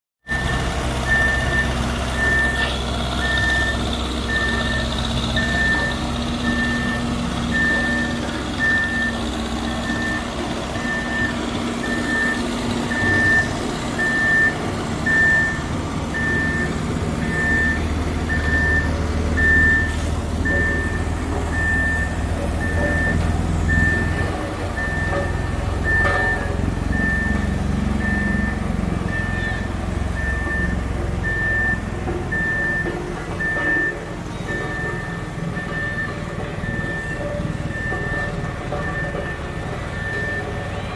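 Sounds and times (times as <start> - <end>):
diesel engine rumble: 0.2 - 40.9
reversing alarm beeping: 0.3 - 40.9.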